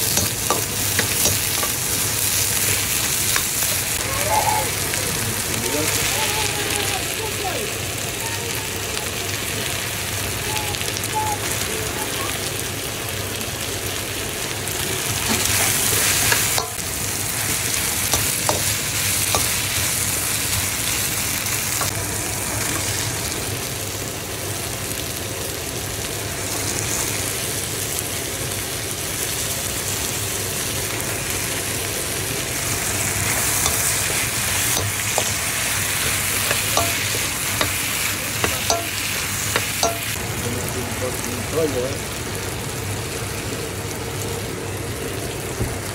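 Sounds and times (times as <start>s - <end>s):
vegetables sizzling in oil: 0.0s - 45.9s.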